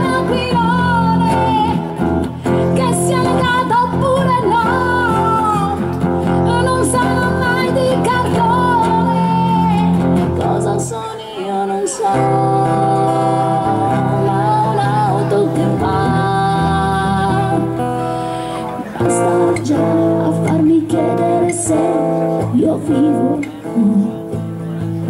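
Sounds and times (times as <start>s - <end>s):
acoustic guitars strumming: 0.0s - 25.0s.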